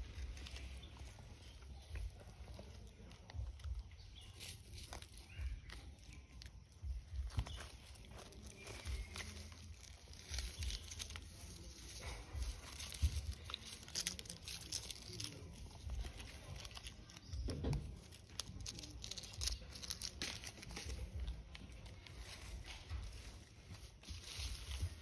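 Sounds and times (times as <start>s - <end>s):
dry leaves rustling: 0.0s - 25.0s.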